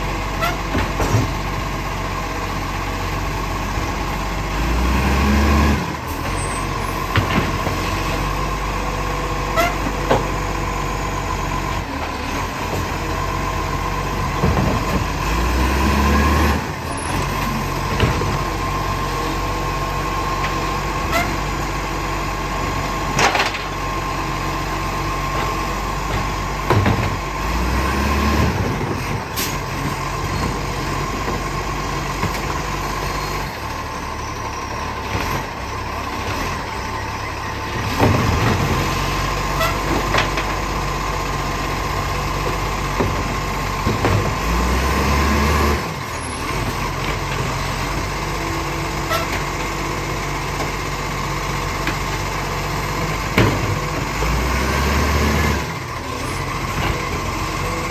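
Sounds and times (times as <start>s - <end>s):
garbage truck engine running: 0.0s - 57.9s.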